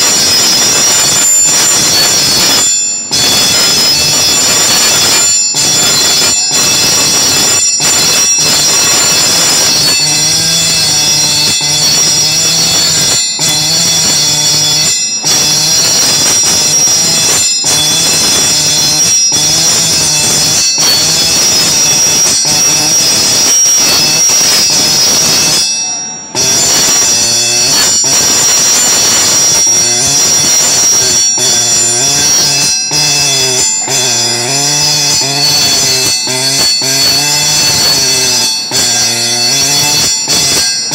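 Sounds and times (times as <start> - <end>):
marking machine stylus hammering metal: 0.0 - 40.9.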